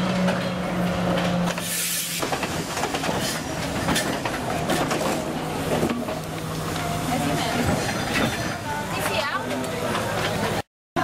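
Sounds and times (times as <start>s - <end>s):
train carriages clicking and rumbling: 0.0s - 10.7s
train engine drone: 0.0s - 10.7s.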